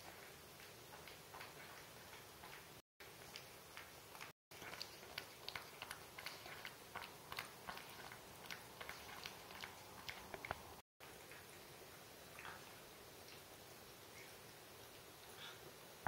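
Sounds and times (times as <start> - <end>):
cat chewing food: 0.0 - 15.6.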